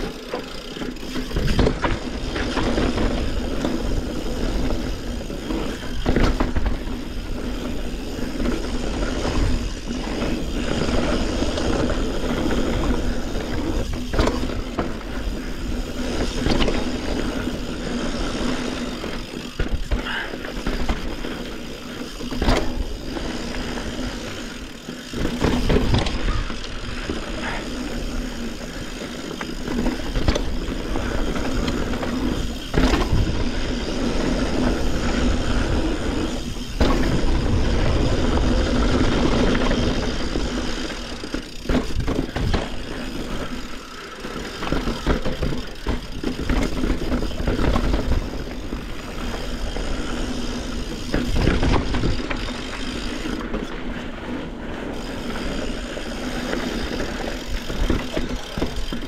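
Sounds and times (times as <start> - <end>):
bike knocks and rattles: 0.0 - 59.0
bike tyres rumbling on dirt: 0.0 - 59.0.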